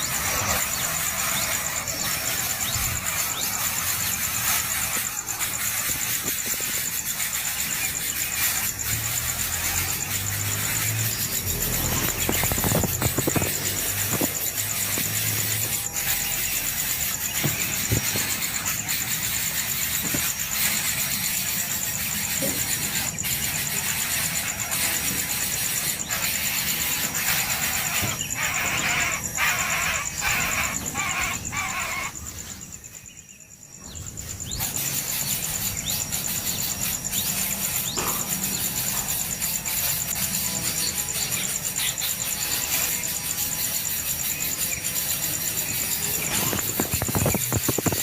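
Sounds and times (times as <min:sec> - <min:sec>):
baby birds cheeping: 0:00.0 - 0:48.0
steady high-pitched whine: 0:00.0 - 0:48.0.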